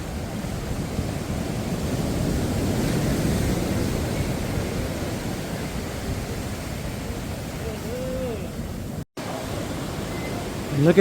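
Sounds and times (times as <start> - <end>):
surf washing onto sandy beach: 0.0 - 11.0.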